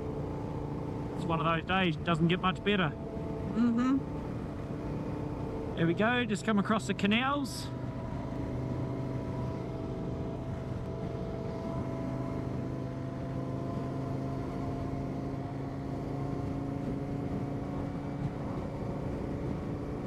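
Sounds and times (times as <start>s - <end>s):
motorcycle engine cruising: 0.0s - 20.0s
road noise: 0.0s - 20.0s.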